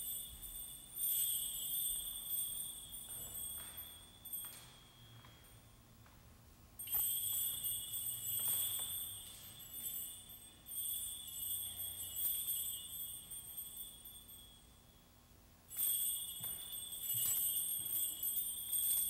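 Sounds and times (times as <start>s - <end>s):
metal percussion jingling: 0.0s - 5.8s, 6.8s - 15.0s, 15.7s - 19.0s.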